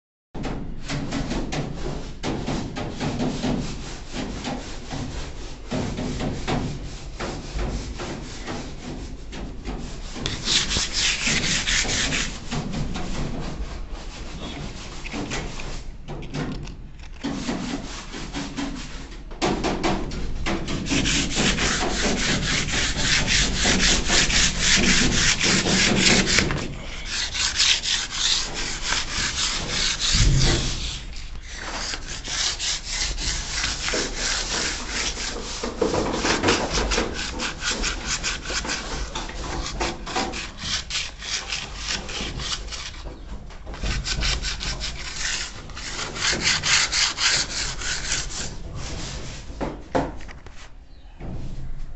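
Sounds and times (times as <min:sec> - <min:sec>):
sandpaper scraping steel: 0:01.8 - 0:19.1, 0:19.8 - 0:49.5.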